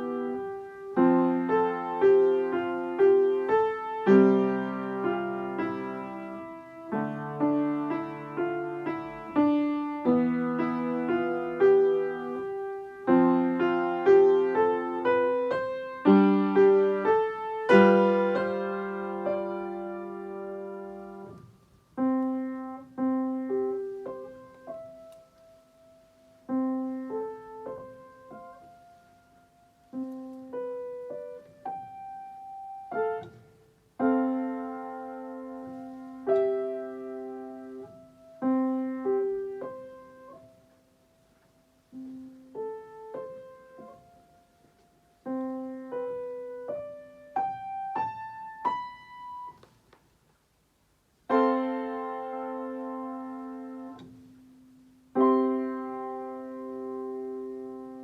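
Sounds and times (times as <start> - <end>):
slow solo piano piece: 0.0 - 50.3, 51.1 - 58.0.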